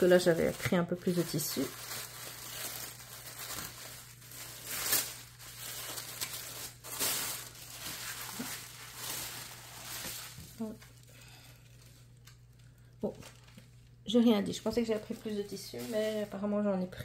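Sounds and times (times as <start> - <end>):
tissue paper rustling: 0.0 - 13.8, 14.6 - 16.5.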